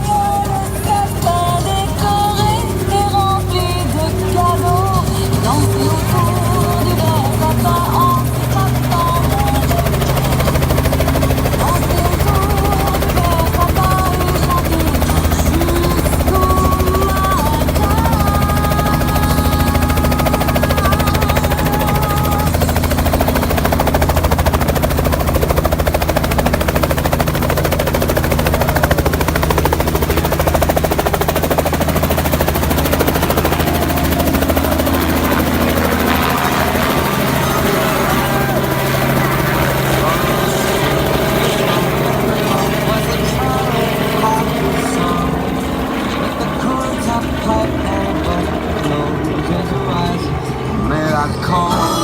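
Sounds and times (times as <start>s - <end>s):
people talking: 0.0s - 24.0s, 32.1s - 52.0s
helicopter rotor chopping: 0.0s - 52.0s.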